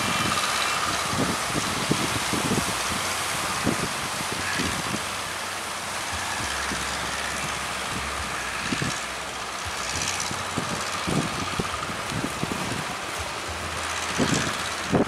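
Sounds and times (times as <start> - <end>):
strong wind: 0.0 - 15.0
surf rushing: 0.0 - 15.0.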